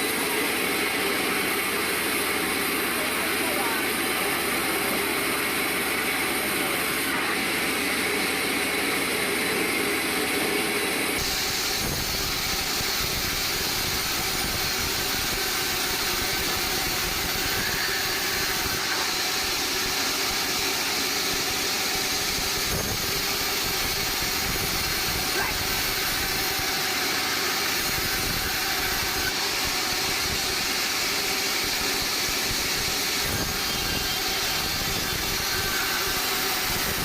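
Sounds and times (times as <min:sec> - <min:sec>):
band sawmill machinery running: 0:00.0 - 0:37.0.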